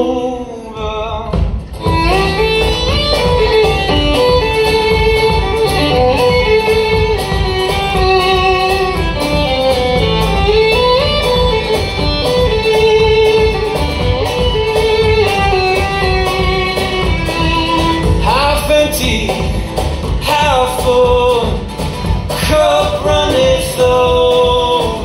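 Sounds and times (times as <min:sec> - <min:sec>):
live band playing: 0:00.0 - 0:25.0
plucked guitar rhythm: 0:01.3 - 0:25.0
sliding melody line: 0:01.8 - 0:25.0.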